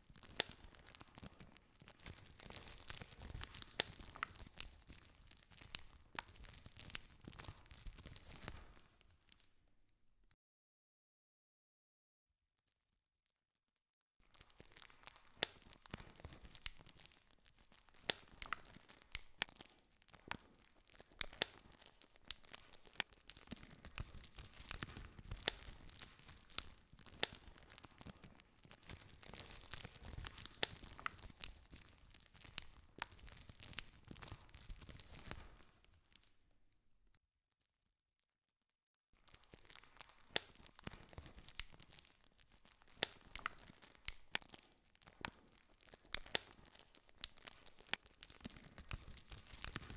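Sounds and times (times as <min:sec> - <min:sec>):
burning wood popping: 0:00.0 - 0:09.4, 0:14.2 - 0:36.3, 0:39.2 - 0:49.9
campfire crackling: 0:00.1 - 0:09.3, 0:14.3 - 0:36.2, 0:39.3 - 0:49.9.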